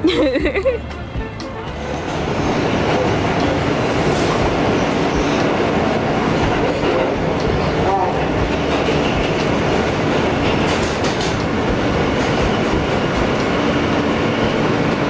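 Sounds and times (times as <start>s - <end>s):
train wheels on track: 1.1s - 15.0s.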